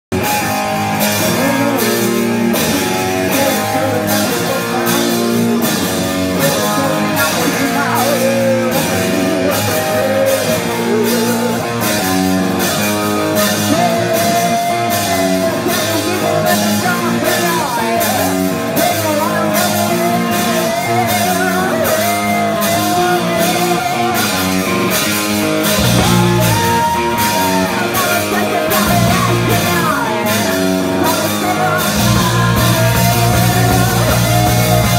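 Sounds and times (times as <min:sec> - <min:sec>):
drum kit beat: 0:00.1 - 0:34.9
electric bass: 0:00.1 - 0:34.9
electric guitar: 0:00.1 - 0:34.9.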